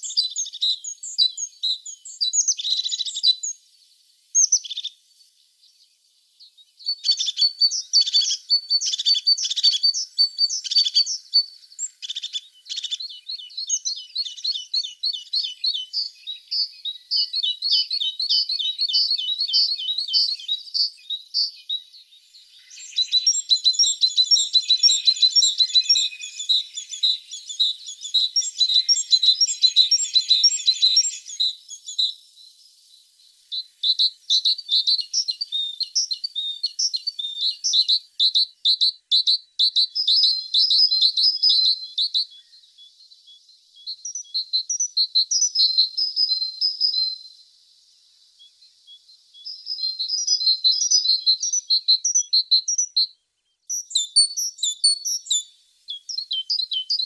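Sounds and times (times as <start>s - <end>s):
bird singing high chirps and trills: 0.0s - 57.0s.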